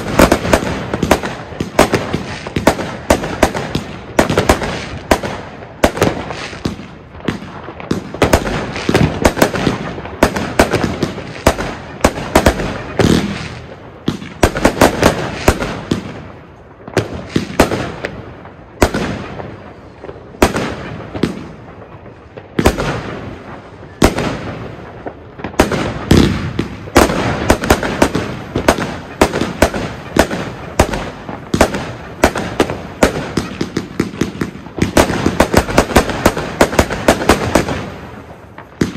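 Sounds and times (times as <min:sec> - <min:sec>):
fireworks launching and banging: 0:00.0 - 0:38.9.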